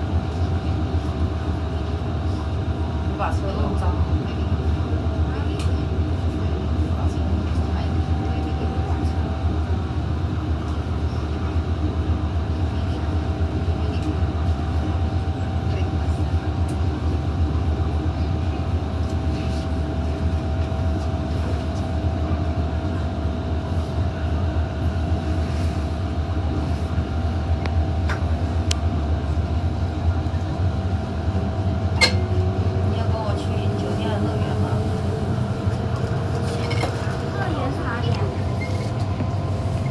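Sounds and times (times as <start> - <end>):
train rumble and whine: 0.0 - 39.9.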